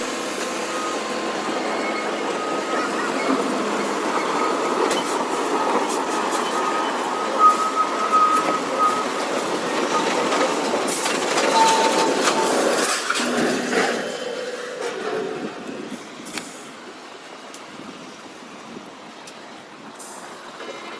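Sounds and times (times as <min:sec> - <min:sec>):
heavy vehicle running: 0:00.0 - 0:20.9.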